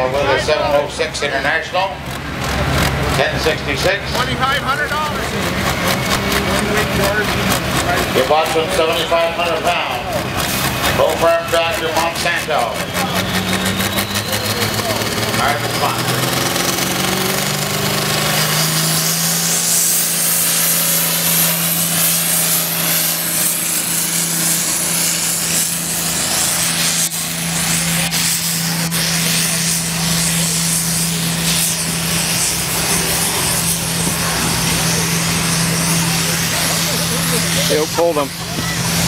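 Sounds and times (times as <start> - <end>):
grinding rumble of sled and tyres: 0.0 - 39.0
tractor engine at full throttle: 0.0 - 39.0.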